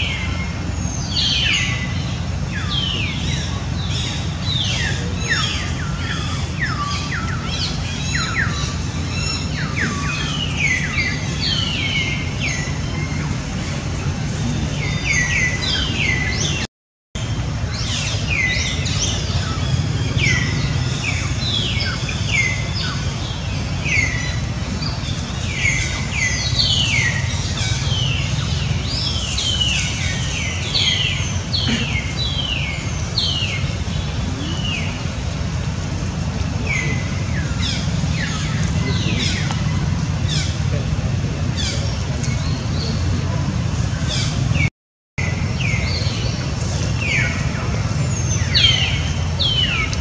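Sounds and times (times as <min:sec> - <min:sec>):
birds chirping: 0:00.0 - 0:50.0
low background rumble: 0:00.0 - 0:50.0.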